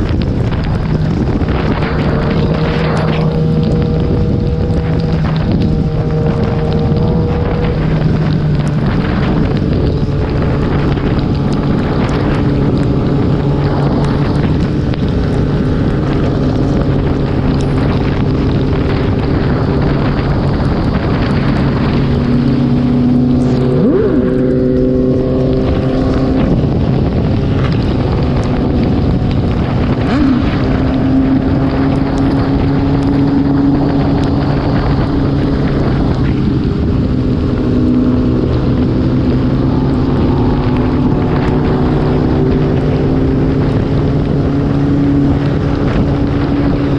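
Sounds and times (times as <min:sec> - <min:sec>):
motorcycle engine running: 0:00.0 - 0:46.9
wind rush on microphone: 0:00.0 - 0:46.9.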